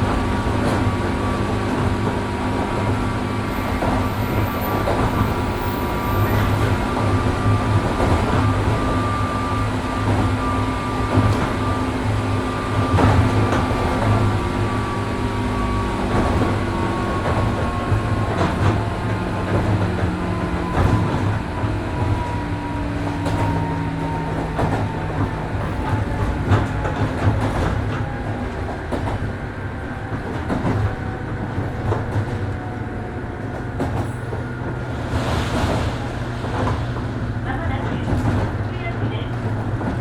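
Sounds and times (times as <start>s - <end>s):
electric train rumble: 0.0s - 40.0s.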